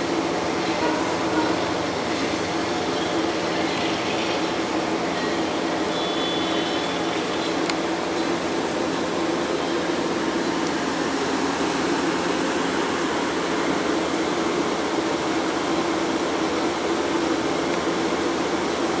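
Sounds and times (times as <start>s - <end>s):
train machinery hum: 0.0s - 19.0s.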